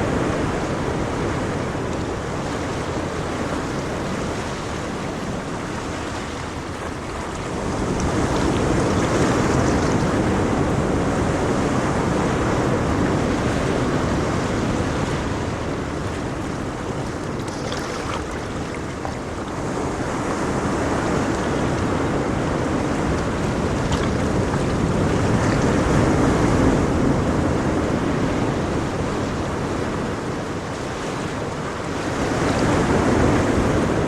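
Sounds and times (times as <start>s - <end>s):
ocean waves breaking on shore: 0.0s - 34.0s.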